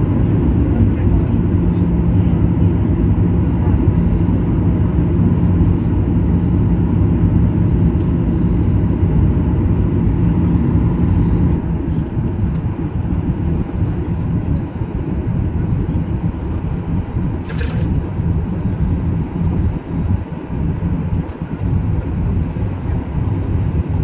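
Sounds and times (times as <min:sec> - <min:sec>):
airflow over fuselage: 0:00.0 - 0:24.0
jet engine drone: 0:00.0 - 0:24.0
low cabin hum: 0:00.0 - 0:24.0.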